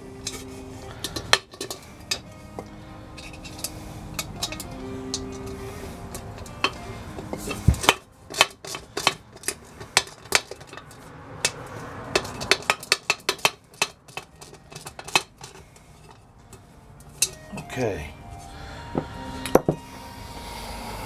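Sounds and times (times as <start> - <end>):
metal parts clinking: 0.0 - 19.8.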